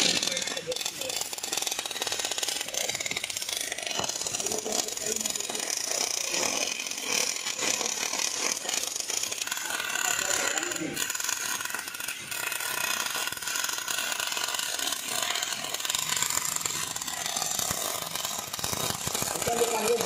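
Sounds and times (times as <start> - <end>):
welding arc crackling: 0.0 - 20.0.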